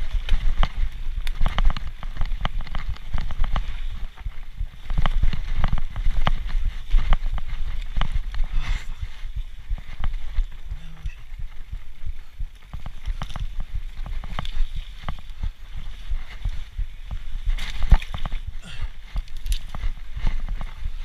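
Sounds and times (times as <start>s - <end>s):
bike knocking and rattling: 0.0s - 21.0s
bike rumbling over rough ground: 0.0s - 21.0s.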